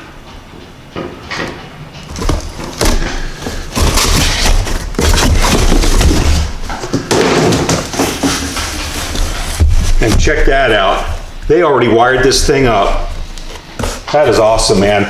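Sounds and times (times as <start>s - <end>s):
rustling and knocks of packaging: 1.0s - 11.4s, 12.2s - 15.0s.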